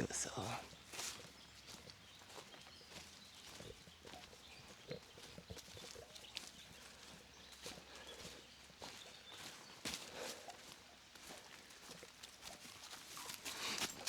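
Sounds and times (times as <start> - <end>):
footsteps on dry leaves and twigs: 0.0 - 14.0.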